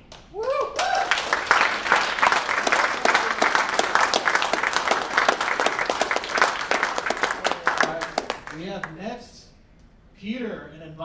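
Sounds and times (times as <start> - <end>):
audience applauding: 0.1 - 9.0.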